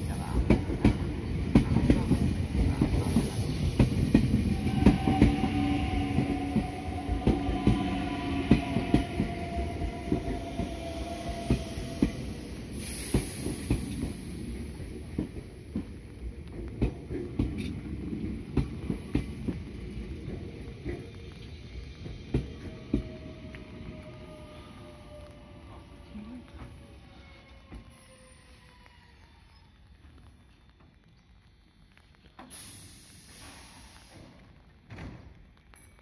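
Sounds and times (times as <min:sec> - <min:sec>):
train rumble: 0:00.0 - 0:31.1.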